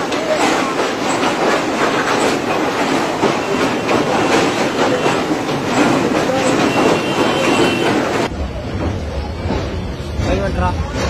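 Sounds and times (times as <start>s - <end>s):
train wheels clattering on track: 0.0s - 11.0s.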